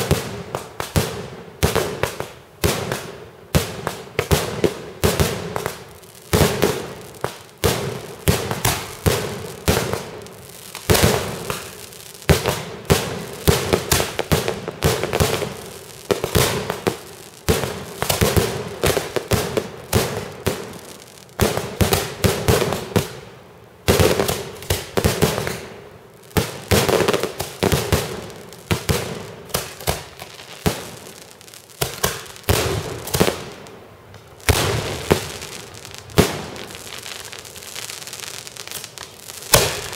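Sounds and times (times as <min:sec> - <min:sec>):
fireworks bursting with echoes: 0:00.0 - 0:39.9.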